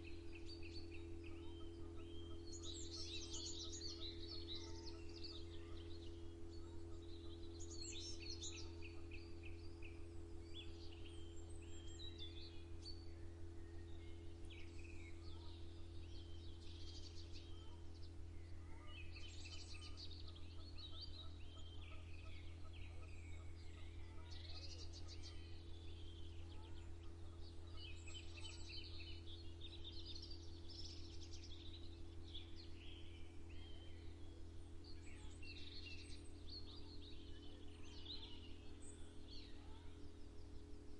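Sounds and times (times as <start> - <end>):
songbirds singing and chirping: 0.0 - 40.9
steady low hum: 0.0 - 40.9.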